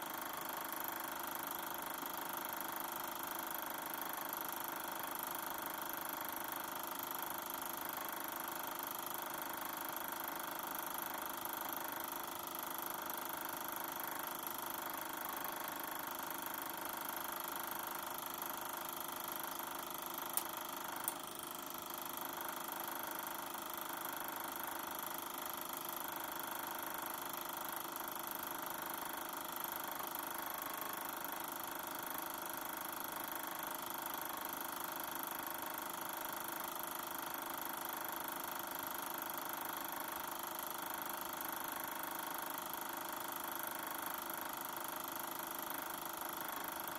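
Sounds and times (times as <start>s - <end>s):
film projector running: 0.0s - 46.9s.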